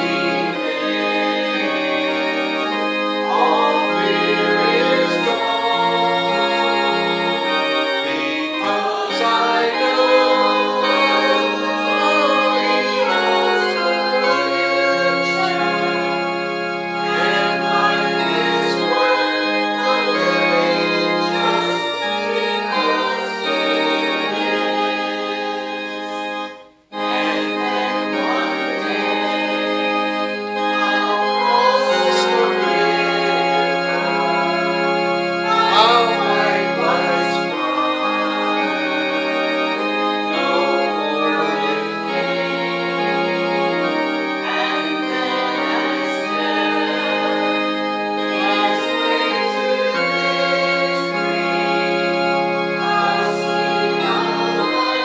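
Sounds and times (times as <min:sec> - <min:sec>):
congregation singing a hymn: 0:00.0 - 0:55.0
organ chords: 0:00.0 - 0:55.0.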